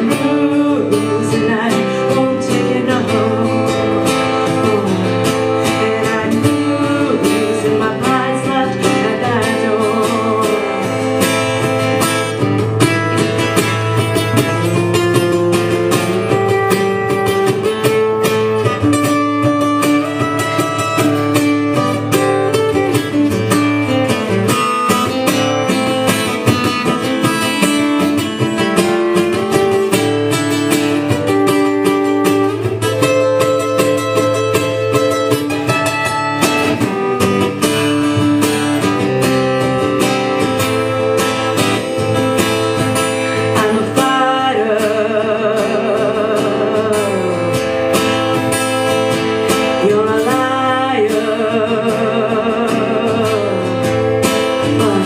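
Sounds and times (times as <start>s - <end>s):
acoustic guitar strummed and picked: 0.0s - 55.0s.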